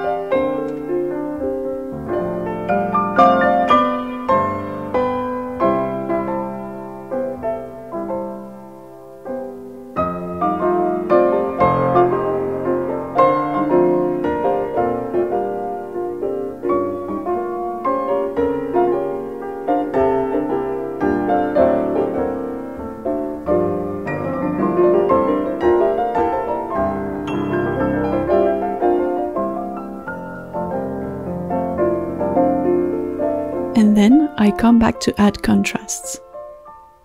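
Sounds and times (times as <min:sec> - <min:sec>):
classical piano music: 0:00.0 - 0:37.0.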